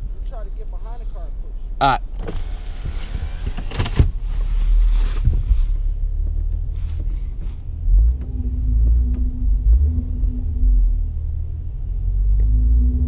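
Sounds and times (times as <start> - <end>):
car engine rumbling under load: 0.0 - 13.0.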